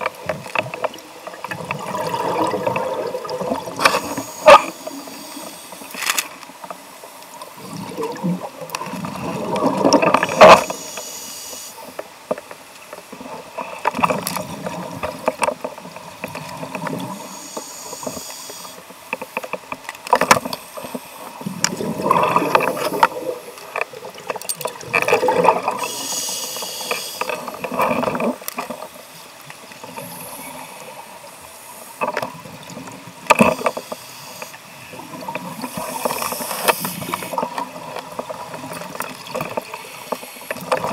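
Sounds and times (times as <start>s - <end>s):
underwater bubbling: 0.0s - 40.9s.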